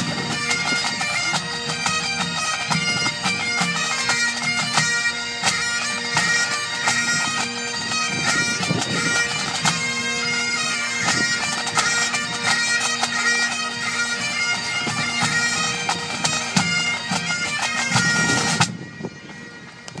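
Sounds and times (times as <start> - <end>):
bagpipes playing: 0.0 - 20.0.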